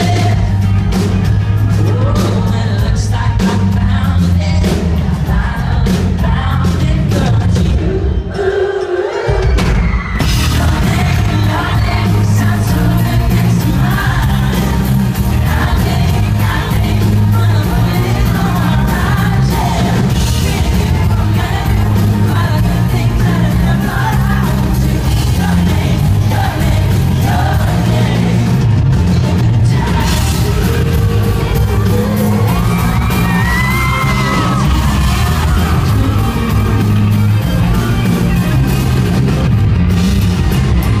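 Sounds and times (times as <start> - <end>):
heavy bass: 0.0 - 8.2, 9.5 - 41.0
person singing: 0.0 - 38.4
drums: 0.0 - 41.0
crowd yelling and whooping: 7.5 - 41.0.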